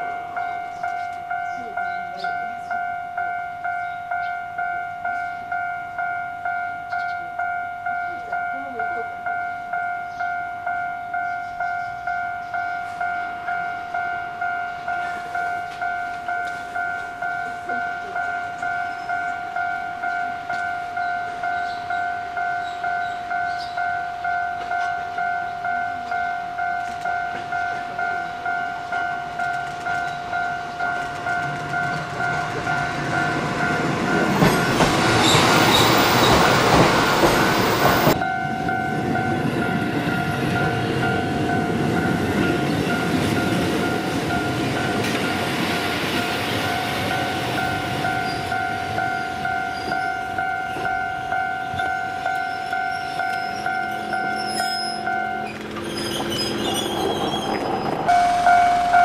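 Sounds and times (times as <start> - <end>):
level-crossing warning bell: 0.0 - 59.0
train passing with rail noise: 0.0 - 59.0.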